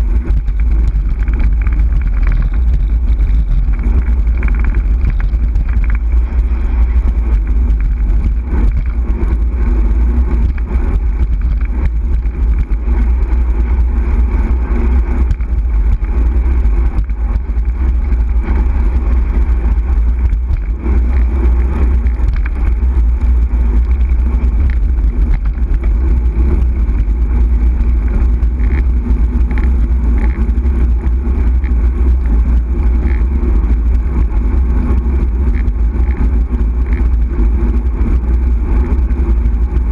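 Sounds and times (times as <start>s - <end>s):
bicycle tyre and road noise: 0.0s - 39.9s
wind buffeting microphone: 0.0s - 39.9s.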